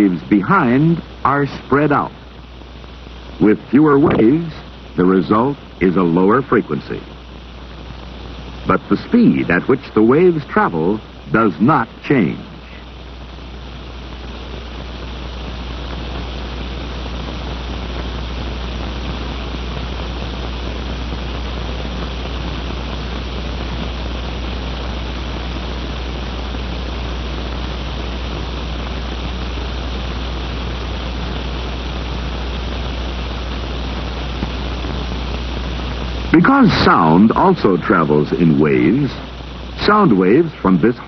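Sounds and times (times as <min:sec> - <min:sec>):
film soundtrack hiss: 0:00.0 - 0:41.0.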